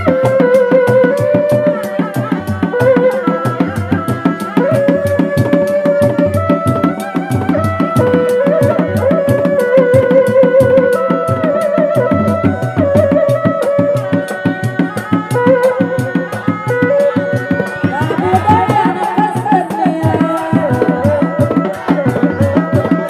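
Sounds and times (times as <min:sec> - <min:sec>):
drums beaten in interlocking strokes: 0:00.0 - 0:23.0
held wavering melody: 0:00.0 - 0:23.0.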